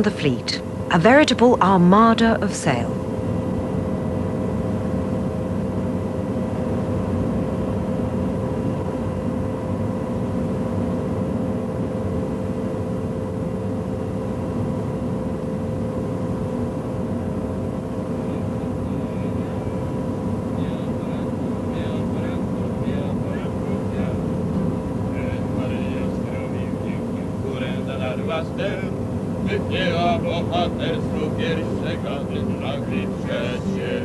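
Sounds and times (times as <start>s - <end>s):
aircraft engine drone: 0.0s - 34.0s.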